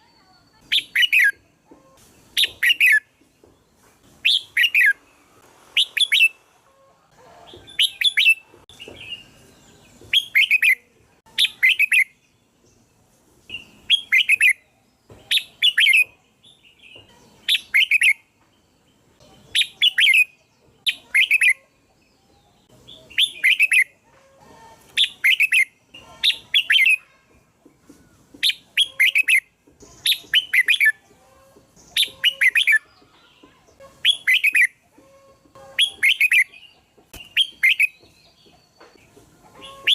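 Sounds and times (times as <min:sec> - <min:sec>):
bird singing: 0:00.0 - 0:05.2, 0:07.6 - 0:24.0, 0:24.9 - 0:27.2, 0:27.8 - 0:39.9.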